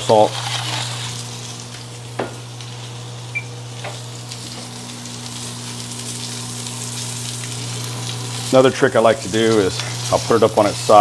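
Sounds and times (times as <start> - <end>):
steak sizzling on grill: 0.0 - 11.0.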